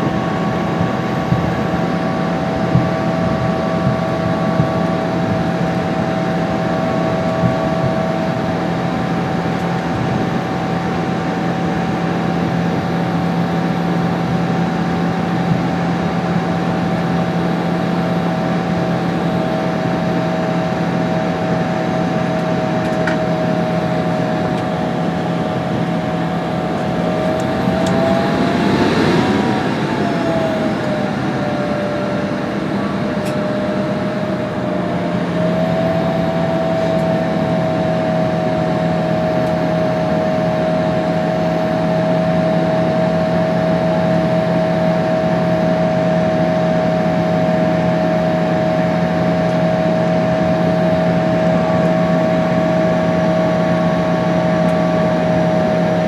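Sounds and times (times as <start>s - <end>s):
jet engine whine in cabin: 0.0s - 56.0s.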